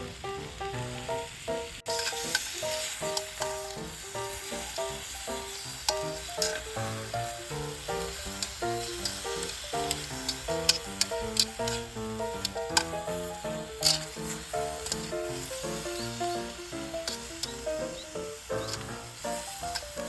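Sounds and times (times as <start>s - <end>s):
background music melody: 0.0s - 20.0s
food sizzling in a frying pan: 0.0s - 20.0s.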